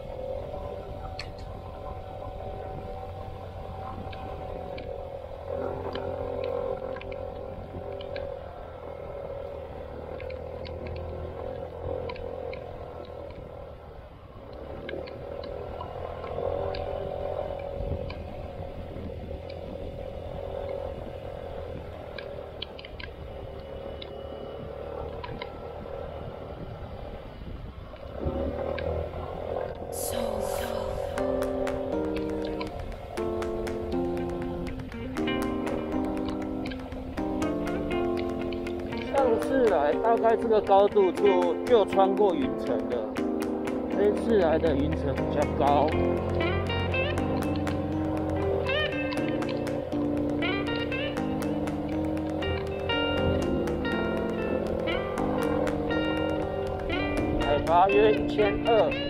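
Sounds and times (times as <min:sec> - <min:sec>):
scooter engine running: 0:00.0 - 0:13.8, 0:14.7 - 0:26.8, 0:29.2 - 0:59.0.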